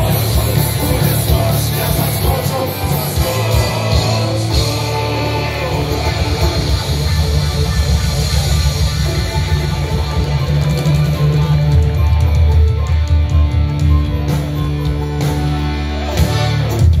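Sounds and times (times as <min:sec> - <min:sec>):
live rock band playing loud: 0:00.0 - 0:17.0.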